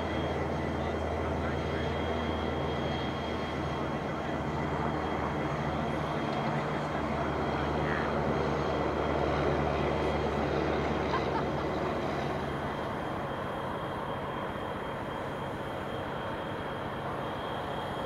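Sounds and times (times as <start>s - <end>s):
diesel locomotives idling: 0.0s - 18.0s.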